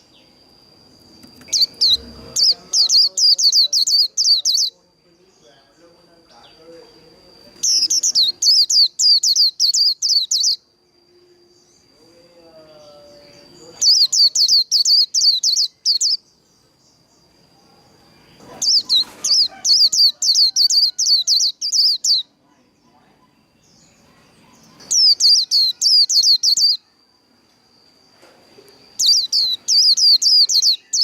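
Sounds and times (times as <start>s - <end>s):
bird singing trilled song: 0.0s - 10.7s, 11.4s - 27.0s, 28.6s - 31.0s
thin steady high tone: 0.0s - 31.0s.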